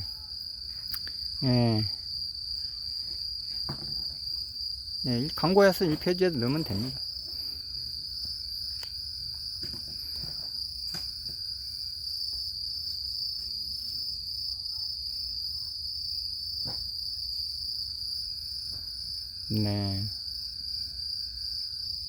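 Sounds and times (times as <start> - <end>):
insects singing: 0.0 - 22.0.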